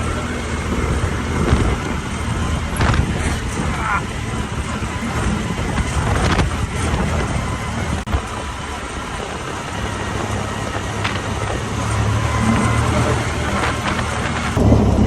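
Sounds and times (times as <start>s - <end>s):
vehicle engine running: 0.0s - 15.0s
wind noise: 0.0s - 15.0s.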